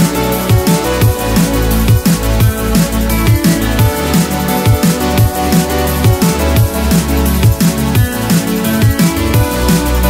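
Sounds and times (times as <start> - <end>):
deep bass hits: 0.0 - 10.0
electronic music with beat: 0.0 - 10.0.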